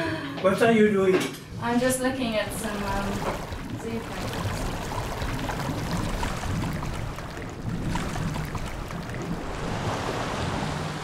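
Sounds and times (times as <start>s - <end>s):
moving water: 0.8s - 11.0s.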